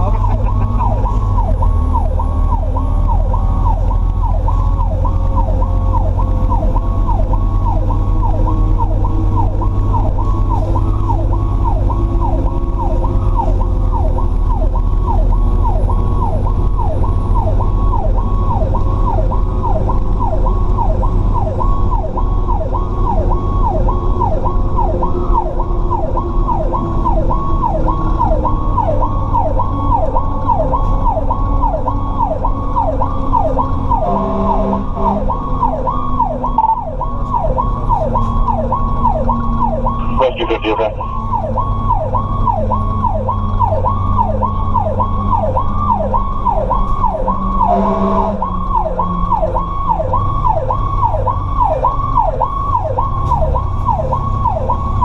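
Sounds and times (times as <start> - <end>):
lower siren tone sliding down: 0.0 - 55.0
road noise: 0.0 - 55.0
siren yelping: 0.0 - 55.0
truck engine rumble: 0.0 - 55.0.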